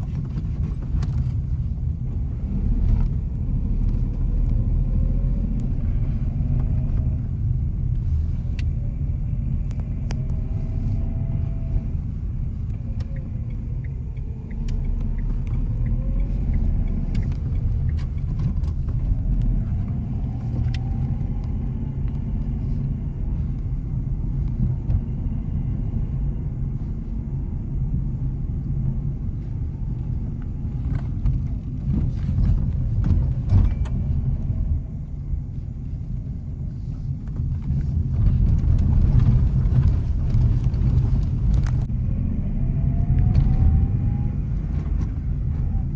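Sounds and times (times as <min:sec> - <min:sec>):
car tyres and engine rumble: 0:00.0 - 0:45.9.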